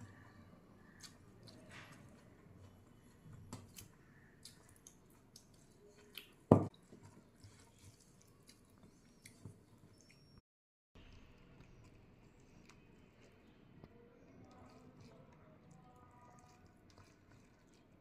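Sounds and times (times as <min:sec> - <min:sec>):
person chewing food: 0:00.1 - 0:10.3, 0:11.0 - 0:18.0.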